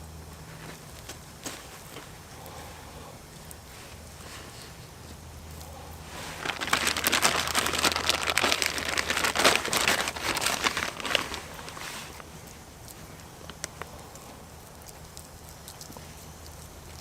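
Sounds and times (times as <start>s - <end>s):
crinkling and rustling: 0.4s - 17.0s.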